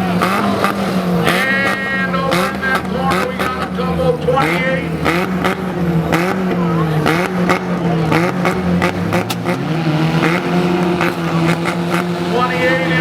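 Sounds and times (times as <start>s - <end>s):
car engines running and revving: 0.0s - 13.0s.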